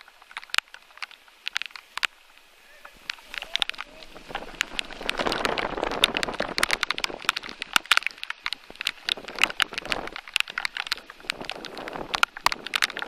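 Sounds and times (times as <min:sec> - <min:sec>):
raindrops ticking on microphone: 0:00.0 - 0:13.0
soft hiss of rain: 0:00.0 - 0:13.0.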